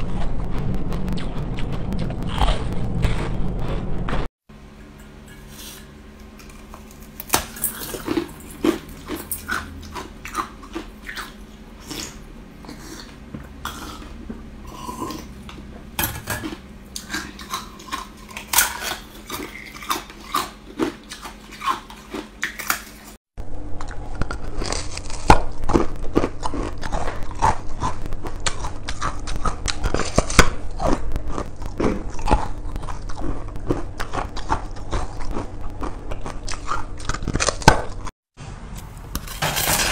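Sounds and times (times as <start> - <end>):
person chewing ice: 1.2 - 4.3, 5.3 - 38.2.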